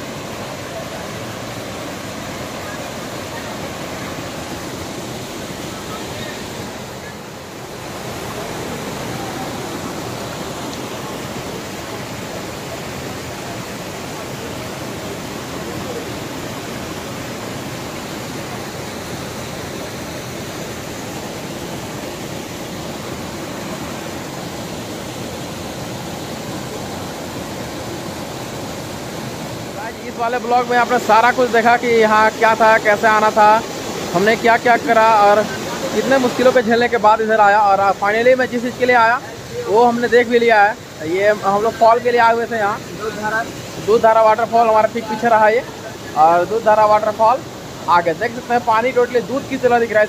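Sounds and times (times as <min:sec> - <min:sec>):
waterfall rushing over rock: 0:00.0 - 0:50.0.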